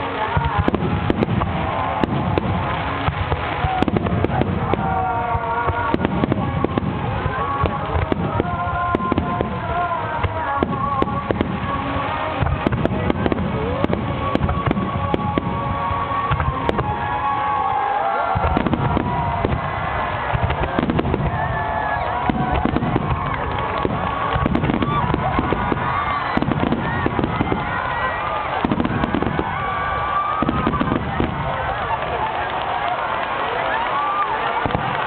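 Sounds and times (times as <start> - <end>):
song over loudspeakers: 0.0 - 32.0
firework shells booming and crackling: 0.0 - 35.0.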